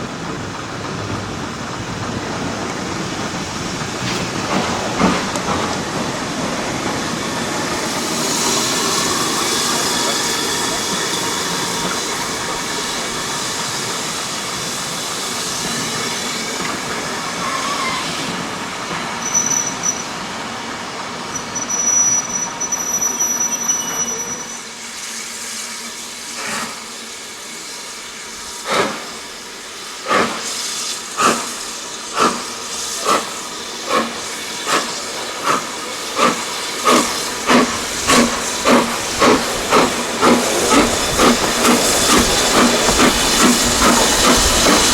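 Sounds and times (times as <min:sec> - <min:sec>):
steam hissing: 0:00.0 - 0:44.9.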